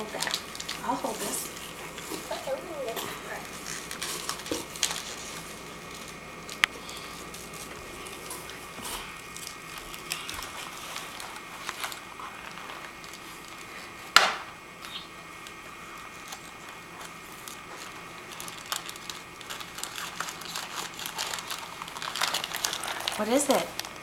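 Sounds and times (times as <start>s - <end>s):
paper rustling and crinkling: 0.0s - 14.1s, 14.8s - 24.0s.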